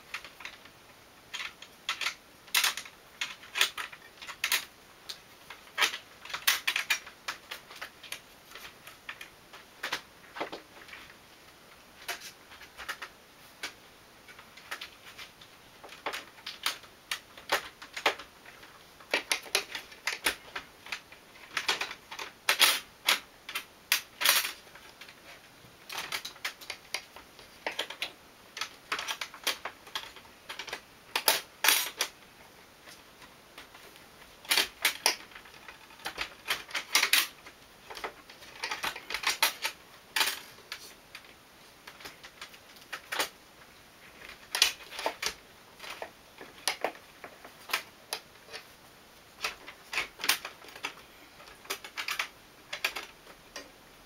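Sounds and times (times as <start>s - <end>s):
hard parts clicking and clacking: 1.3s - 11.2s, 12.0s - 25.2s, 25.8s - 32.2s, 32.8s - 43.4s, 44.1s - 48.7s, 49.4s - 53.8s.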